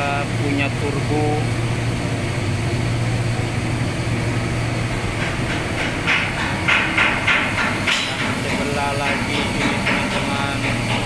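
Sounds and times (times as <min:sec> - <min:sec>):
marine diesel engine running: 0:00.0 - 0:11.0.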